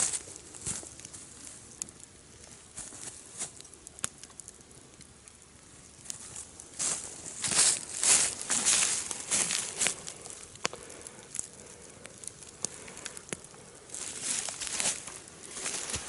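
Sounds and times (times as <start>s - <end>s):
campfire crackling: 0.0s - 16.0s
rustling and crunching: 0.0s - 16.0s.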